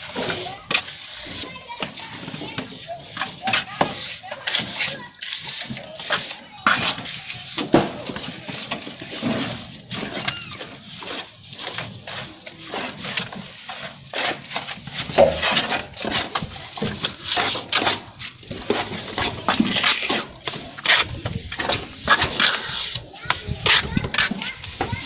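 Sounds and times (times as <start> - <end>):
trowel scraping wet cement: 0.0 - 25.0.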